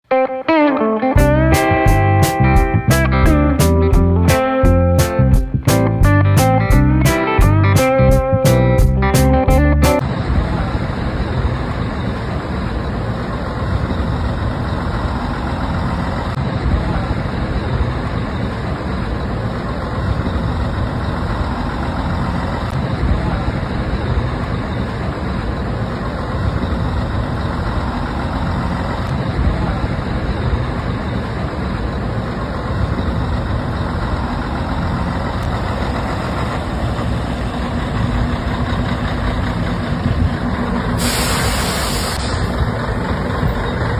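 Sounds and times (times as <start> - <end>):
bus engine idling: 1.2 - 43.9.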